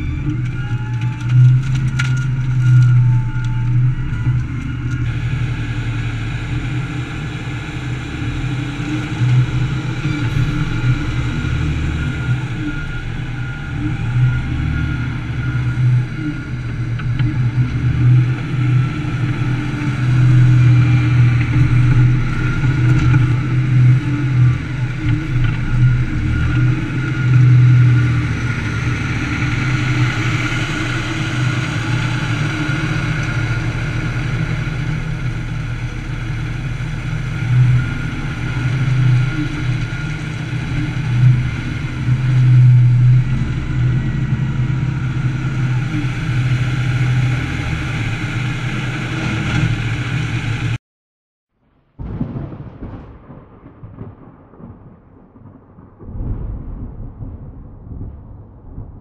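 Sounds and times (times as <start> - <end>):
heavy diesel engines droning: 0.0 - 50.8.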